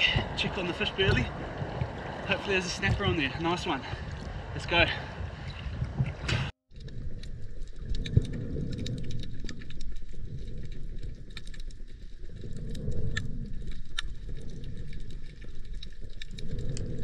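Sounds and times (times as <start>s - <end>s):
muffled underwater water rumble: 0.0s - 17.0s
sharp underwater clicks and crackles: 0.0s - 17.0s.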